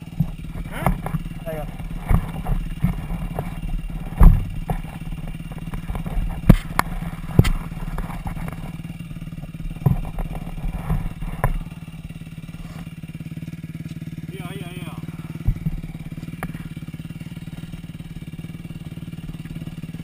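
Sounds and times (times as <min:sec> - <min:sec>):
dirt bike engine idling: 0:00.0 - 0:20.0.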